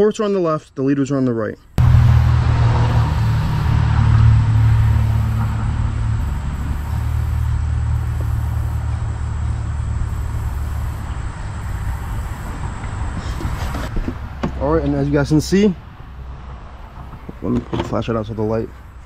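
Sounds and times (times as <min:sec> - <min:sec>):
low engine rumble: 0:01.8 - 0:19.0.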